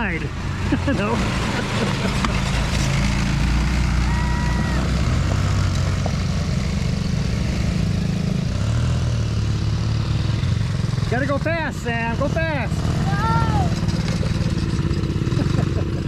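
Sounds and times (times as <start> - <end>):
small atv engine running: 0.0 - 16.0.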